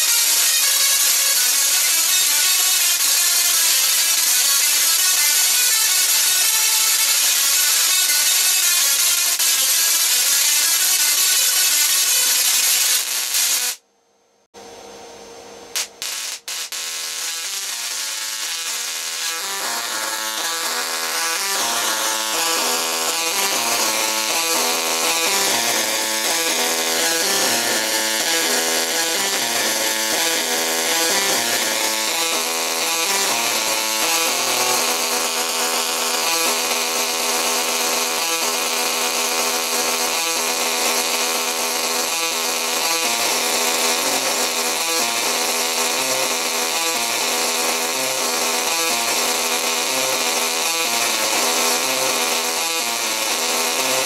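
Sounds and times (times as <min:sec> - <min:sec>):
tesla coil electric buzz: 0:00.0 - 0:13.8, 0:14.6 - 0:54.0.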